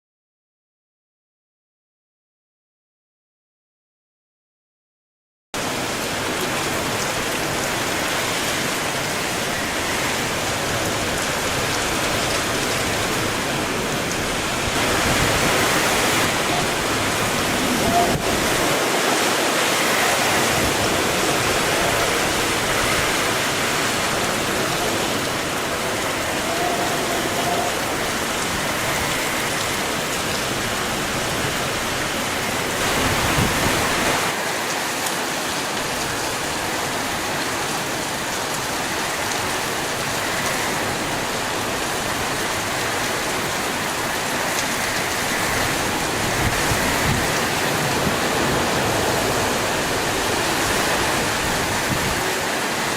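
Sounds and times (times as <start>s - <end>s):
heavy rain: 5.6s - 52.9s
strong wind: 5.6s - 52.9s.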